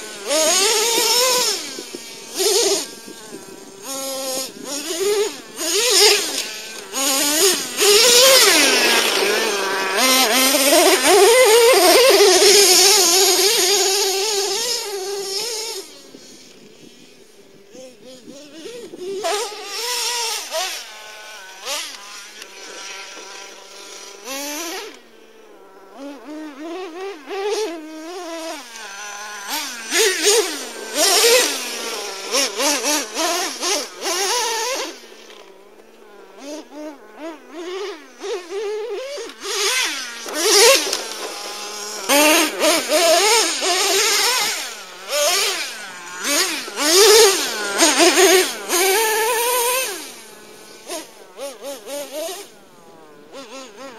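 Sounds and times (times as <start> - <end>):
rc nitro engine revving: 0.0 - 53.9.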